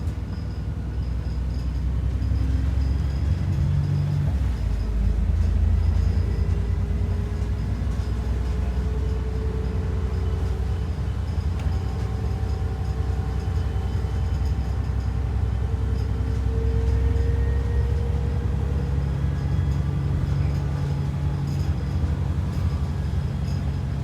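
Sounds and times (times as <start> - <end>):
bus engine rumble: 0.0 - 24.0
faint engine whine: 0.0 - 24.0.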